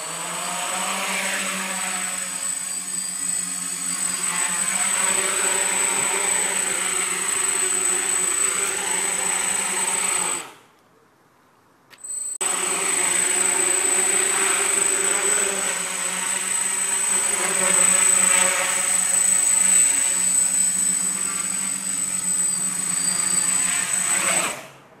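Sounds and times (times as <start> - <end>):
quadcopter motors buzzing: 0.0 - 10.6, 12.0 - 24.9.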